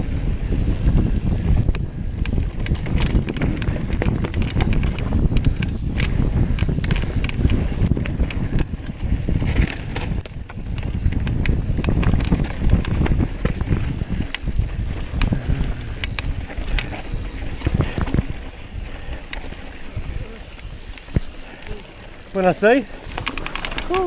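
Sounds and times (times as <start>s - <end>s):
bike chain and frame rattling: 0.0s - 24.0s
bike tyres rumbling on dirt: 0.0s - 24.0s
wind buffeting microphone: 0.0s - 24.0s.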